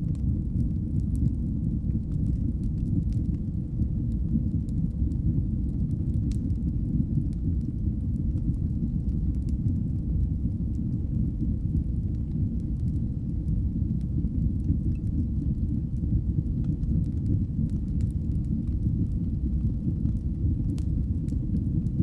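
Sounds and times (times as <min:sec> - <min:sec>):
fire burning with low rumble: 0:00.0 - 0:22.0
fire crackling and popping: 0:00.0 - 0:22.0.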